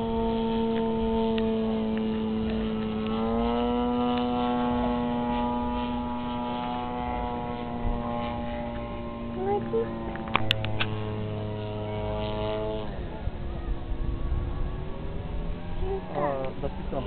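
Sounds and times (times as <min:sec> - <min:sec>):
model airplane engine droning: 0:00.0 - 0:17.0.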